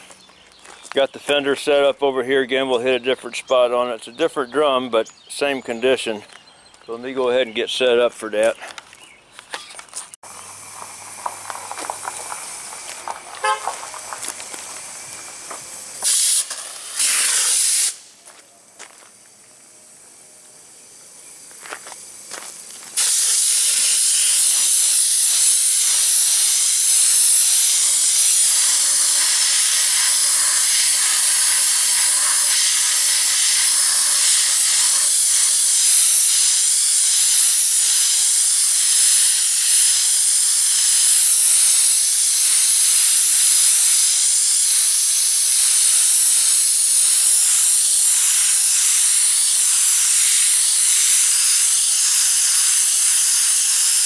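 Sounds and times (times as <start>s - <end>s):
sandblaster hissing: 10.2s - 54.0s.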